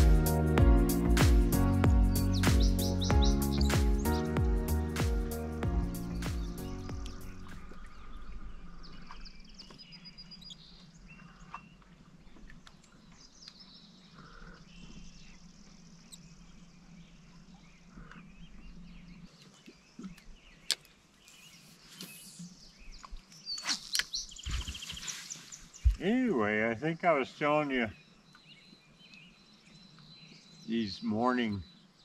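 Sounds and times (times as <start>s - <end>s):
birds chirping and calling: 2.0s - 11.9s, 12.6s - 32.0s.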